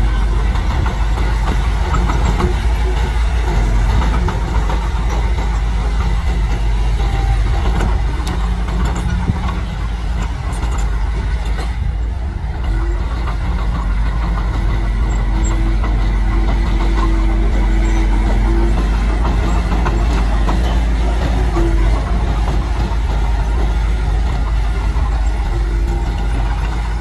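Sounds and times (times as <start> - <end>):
bulldozer diesel engine under load: 0.0 - 27.0.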